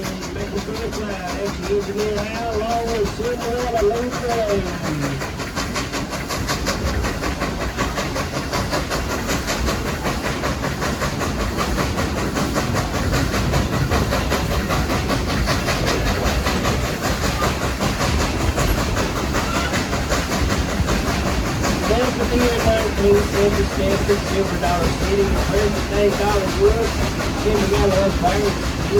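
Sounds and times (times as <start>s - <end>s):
steam train rumble and rattle: 0.0s - 28.9s.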